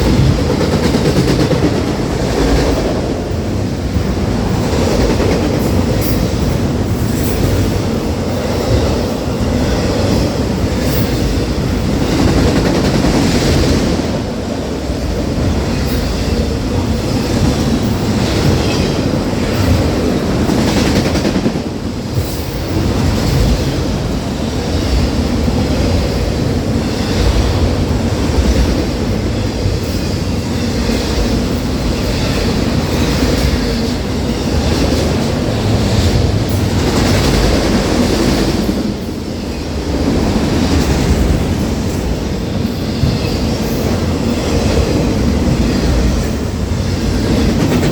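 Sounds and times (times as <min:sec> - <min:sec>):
steel wheels rolling on rail: 0:00.0 - 0:47.9.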